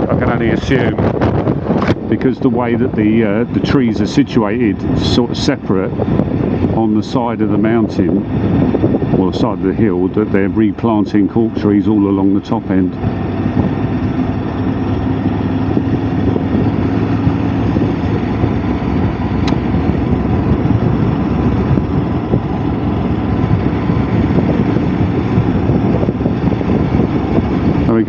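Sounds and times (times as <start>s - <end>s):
heavy wind: 0.0s - 28.0s
motorcycle engine running: 0.0s - 28.0s
road rush: 0.0s - 28.0s.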